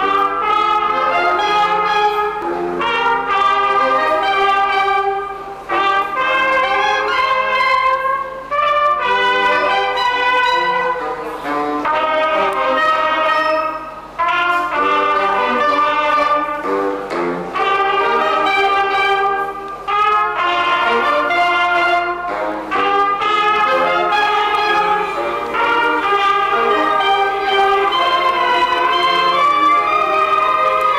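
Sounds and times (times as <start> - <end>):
brass band playing chords: 0.0 - 30.9.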